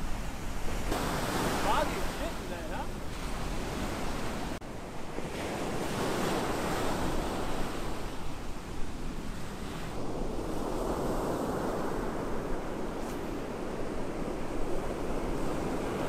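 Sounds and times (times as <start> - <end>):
ocean surf breaking on beach: 0.0 - 16.0
wind rushing over microphone: 0.0 - 16.0.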